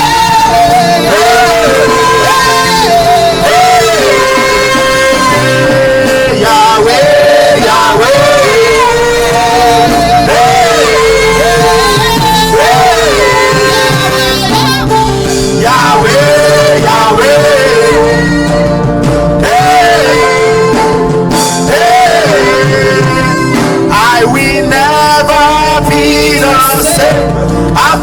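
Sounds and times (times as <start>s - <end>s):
band with keyboard and guitar: 0.0s - 28.0s
person singing: 0.0s - 28.0s.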